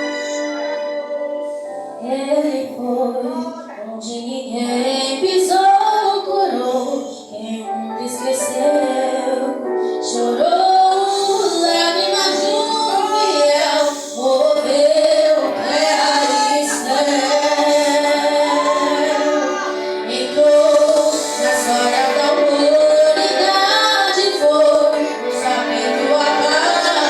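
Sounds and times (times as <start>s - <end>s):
musical accompaniment: 0.0s - 3.9s, 4.6s - 27.0s
women singing worship song: 2.0s - 27.0s.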